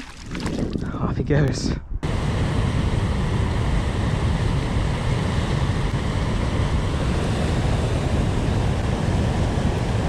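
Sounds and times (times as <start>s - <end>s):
steady low rushing noise: 1.0s - 10.0s.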